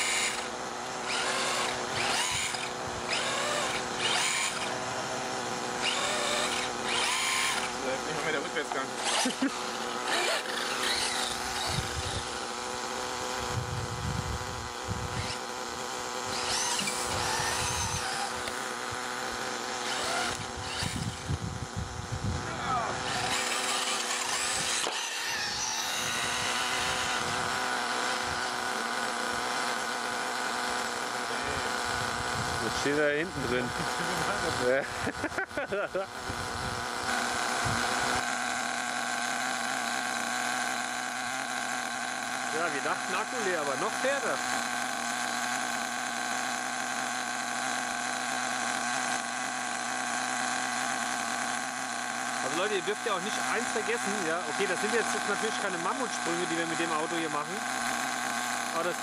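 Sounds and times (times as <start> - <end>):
electric motor whine: 0.0 - 59.0
small nitro engine running: 0.0 - 59.0.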